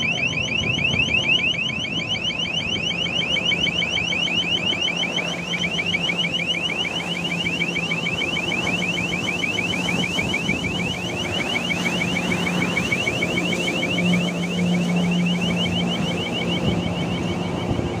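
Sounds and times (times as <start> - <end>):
electronic yelping alarm: 0.0 - 18.0
engine drone: 0.0 - 18.0.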